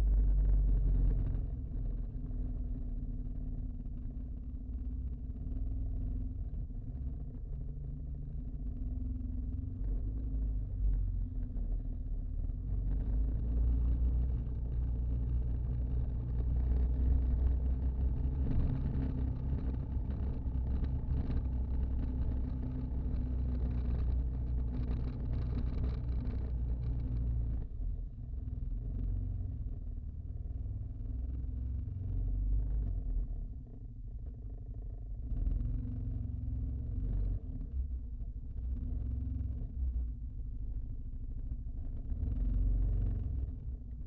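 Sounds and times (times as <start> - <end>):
engine running at low speed: 0.0 - 44.0.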